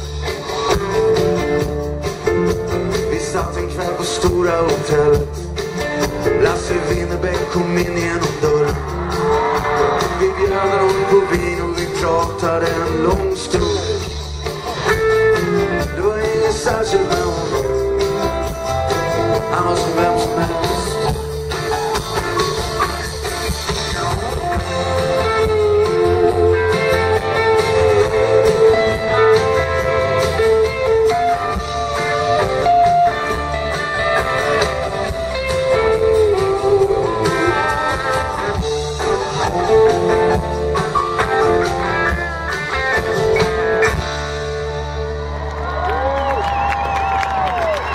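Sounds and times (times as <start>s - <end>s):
guitar bending melody: 0.0s - 45.7s
live rock band playing: 0.0s - 47.9s.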